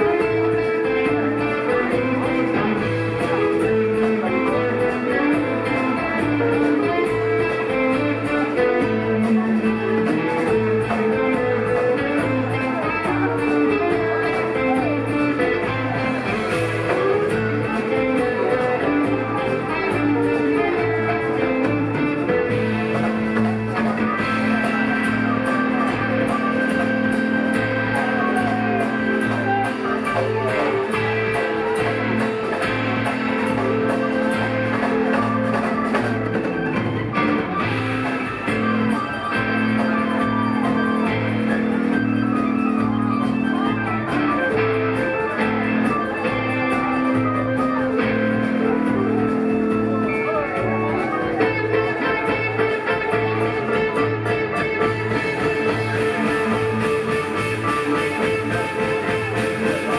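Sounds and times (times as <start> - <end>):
electric guitar: 0.0 - 59.9
live rock band: 0.0 - 59.9.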